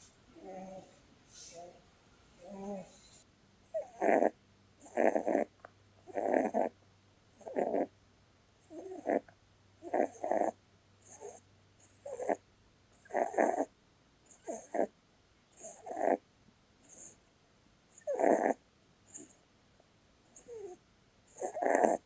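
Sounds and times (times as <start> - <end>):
rabbit snoring: 0.0 - 7.9, 8.6 - 12.4, 13.0 - 13.7, 14.3 - 16.2, 16.8 - 17.2, 17.9 - 19.4, 20.3 - 22.0.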